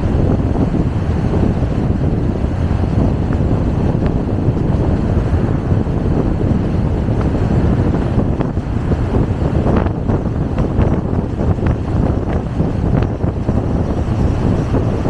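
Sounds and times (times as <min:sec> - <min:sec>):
car road and tyre noise: 0:00.0 - 0:15.0
wind rumble on microphone: 0:00.0 - 0:15.0.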